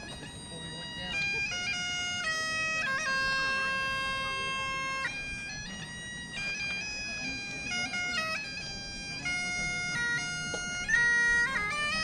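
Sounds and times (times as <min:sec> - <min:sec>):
bagpipes playing a melody: 0:00.0 - 0:12.0.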